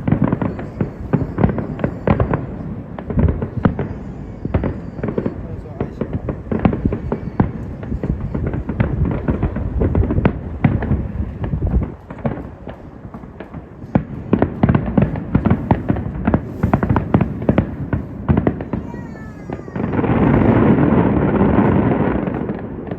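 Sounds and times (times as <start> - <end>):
fireworks booming and cracking: 0.0 - 22.9.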